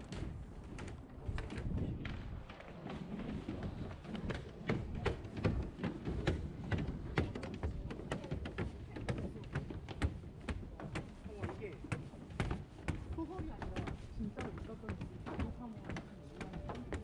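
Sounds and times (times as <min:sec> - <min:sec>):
footsteps tapping: 0:00.0 - 0:17.0.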